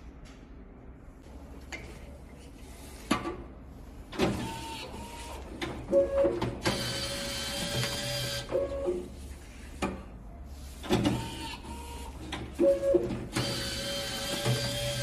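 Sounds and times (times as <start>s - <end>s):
motor hum with paper-feed hiss: 2.4s - 15.0s.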